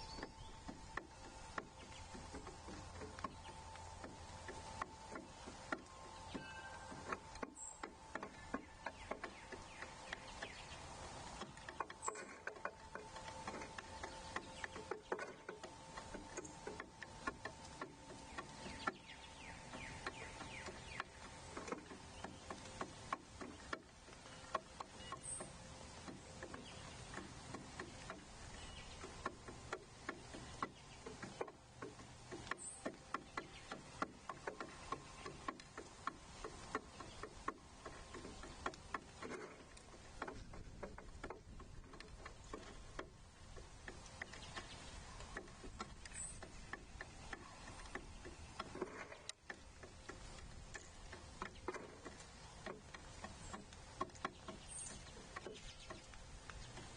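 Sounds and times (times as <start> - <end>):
birds pecking seed: 0.0 - 56.9.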